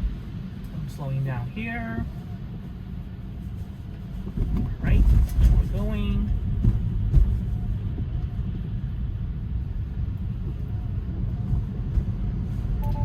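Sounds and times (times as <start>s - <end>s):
tyres rumbling on wet road: 0.0s - 13.0s
wind: 0.0s - 13.0s.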